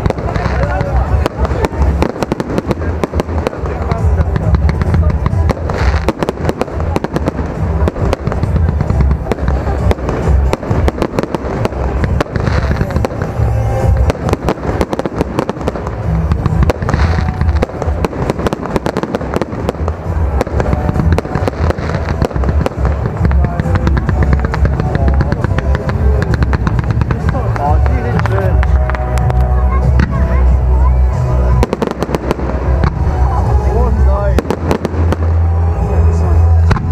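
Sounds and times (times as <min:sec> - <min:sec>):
deep firework booms: 0:00.0 - 0:36.9
firework bursts and crackling: 0:00.0 - 0:36.9.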